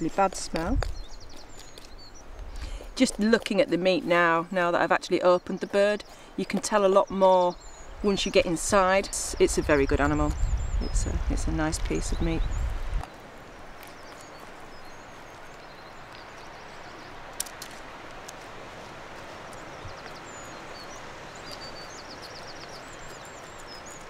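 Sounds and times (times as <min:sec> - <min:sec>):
small birds chirping and trilling: 0:00.0 - 0:18.4, 0:19.1 - 0:24.0.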